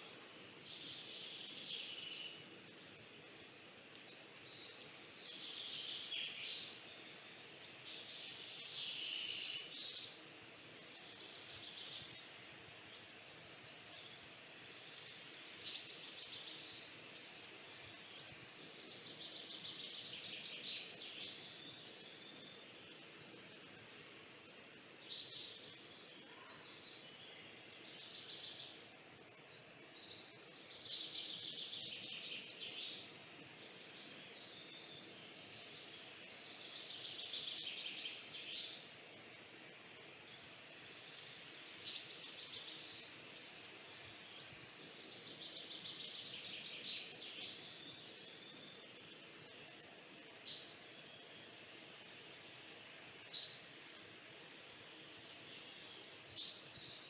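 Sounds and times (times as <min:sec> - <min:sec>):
faint high bird chirps: 0:00.0 - 0:52.3, 0:53.2 - 0:57.0
low steady hiss: 0:00.0 - 0:57.0.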